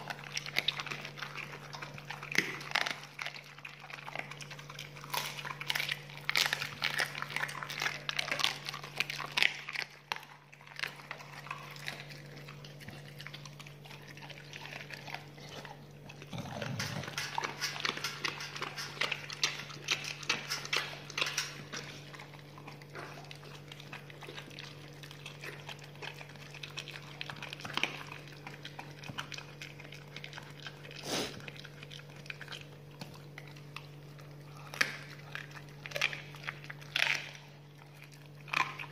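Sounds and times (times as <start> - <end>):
dog chewing and tearing meat: 0.0 - 38.9
steady low hum: 0.0 - 38.9.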